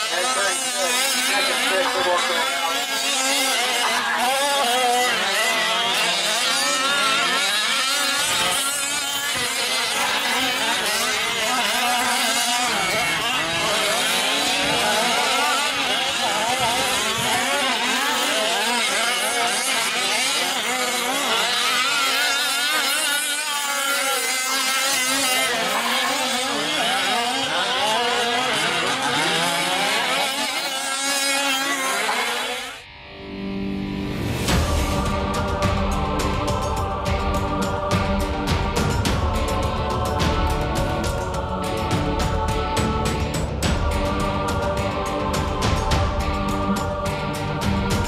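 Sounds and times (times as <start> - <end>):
small two-stroke engines revving: 0.0 - 48.0.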